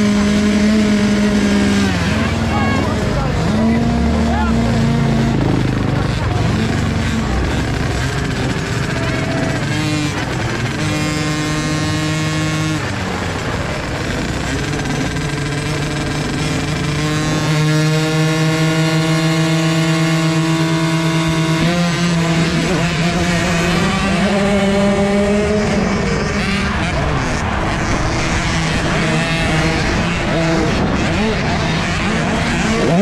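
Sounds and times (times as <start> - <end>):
two-stroke motocross bike engine: 0.0 - 33.0.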